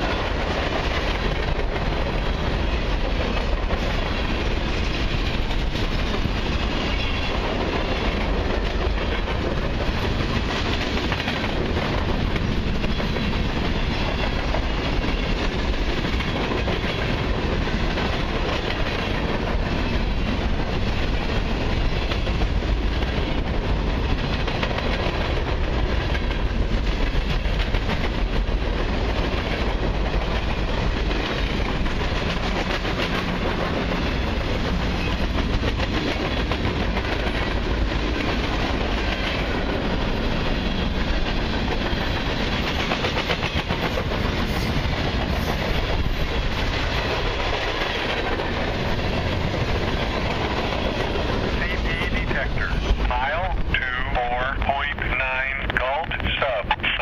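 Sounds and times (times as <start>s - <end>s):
steel wheels clacking over rail joints: 0.0s - 56.2s
freight train rumbling past: 0.0s - 57.0s.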